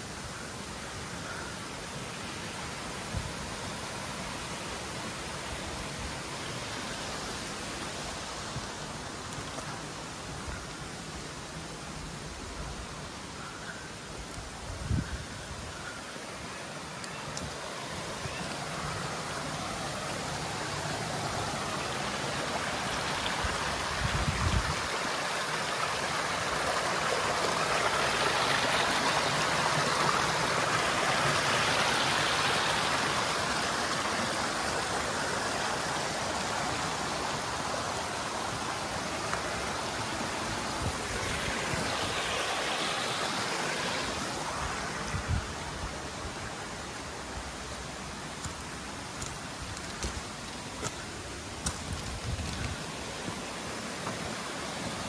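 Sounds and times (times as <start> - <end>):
creek running over stones: 0.0 - 55.0.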